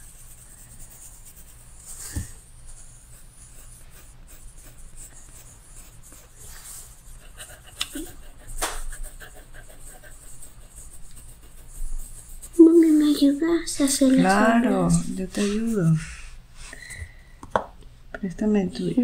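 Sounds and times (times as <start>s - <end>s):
pencil scratching on paper: 0.0s - 16.1s.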